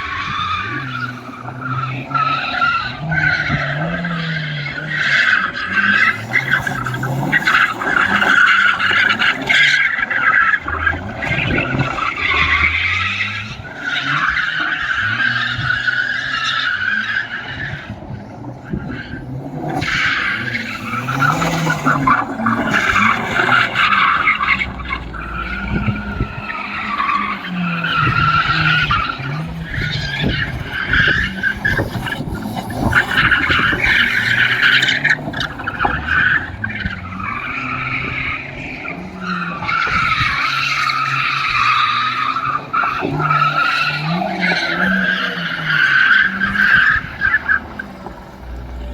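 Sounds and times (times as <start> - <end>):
turbocharged car engine revving: 0.0 - 48.9
tyres sliding on loose dirt: 0.0 - 48.9.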